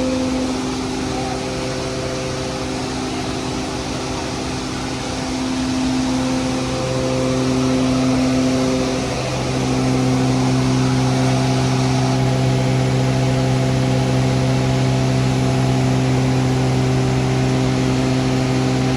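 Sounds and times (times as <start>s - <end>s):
feed grinder machine running: 0.0s - 18.9s.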